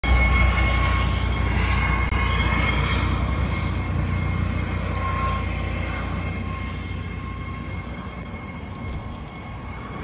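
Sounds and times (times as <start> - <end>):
helicopter rotor beat: 0.0 - 10.0
turbine engine whine: 0.0 - 10.0.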